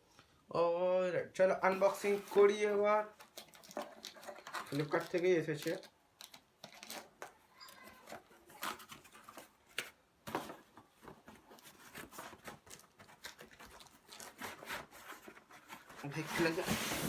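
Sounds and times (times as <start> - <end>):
packaging rustling: 1.6 - 17.0.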